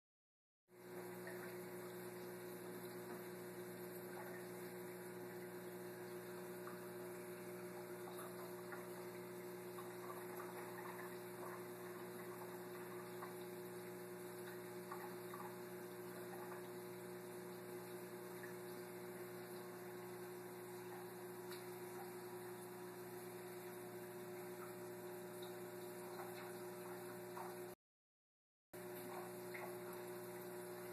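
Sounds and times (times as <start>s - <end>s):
steady electrical hum: 0.7s - 27.8s, 28.8s - 30.9s.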